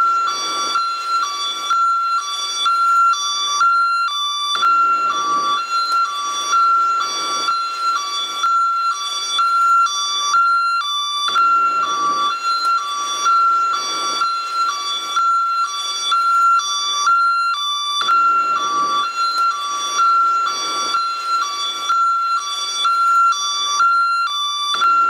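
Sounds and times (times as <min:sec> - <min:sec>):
ambulance hi-lo siren: 0:00.0 - 0:25.0.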